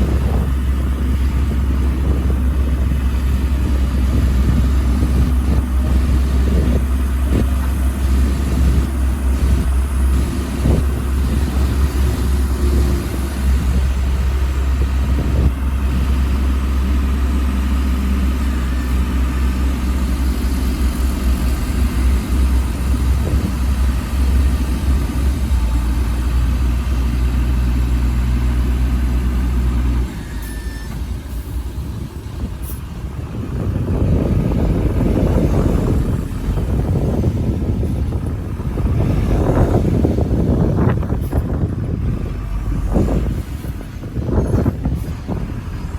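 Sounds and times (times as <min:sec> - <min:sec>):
diesel machinery engine drone: 0:00.0 - 0:45.9.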